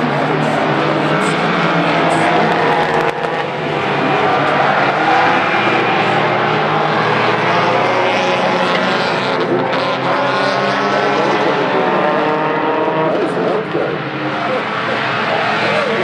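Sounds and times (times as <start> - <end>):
race car engines at high revs: 0.0 - 16.0.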